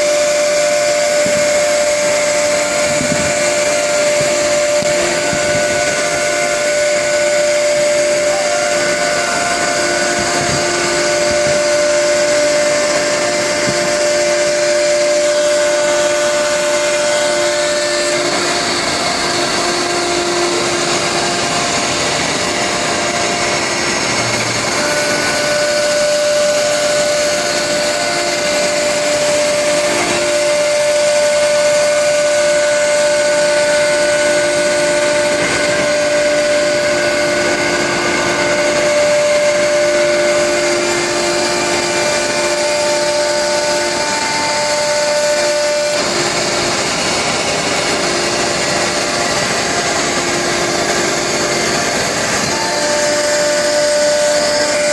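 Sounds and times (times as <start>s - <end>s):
cnc router running with whine: 0.0s - 54.9s.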